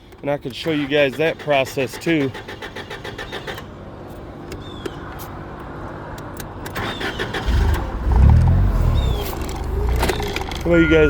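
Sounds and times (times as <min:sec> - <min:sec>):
engine idling and revving: 0:00.6 - 0:11.0.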